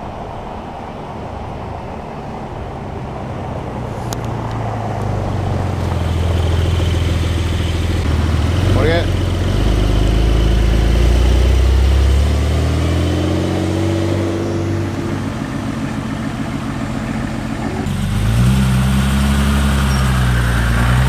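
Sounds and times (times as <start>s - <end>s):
car engines driving slowly past: 0.0s - 21.0s
car engine note rising: 2.2s - 21.0s
car engine steady low note: 2.2s - 21.0s.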